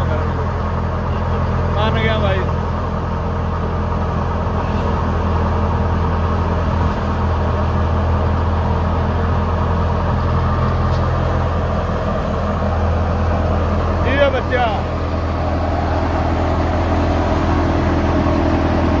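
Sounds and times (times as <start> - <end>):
thresher humming: 0.0 - 19.0
tractor diesel engine: 0.0 - 19.0.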